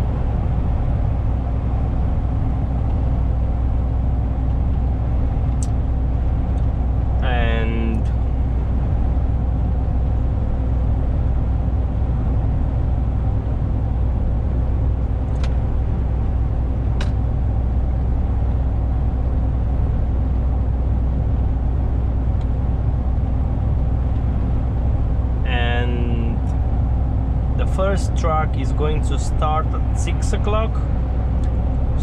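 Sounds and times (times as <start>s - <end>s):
road rumble: 0.0s - 32.0s
truck engine drone: 0.0s - 32.0s.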